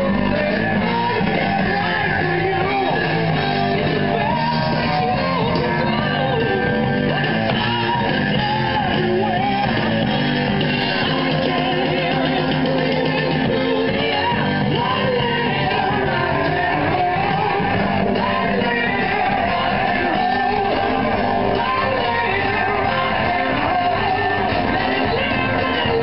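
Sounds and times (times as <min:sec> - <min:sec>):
rock song with guitar and vocals: 0:00.0 - 0:26.0.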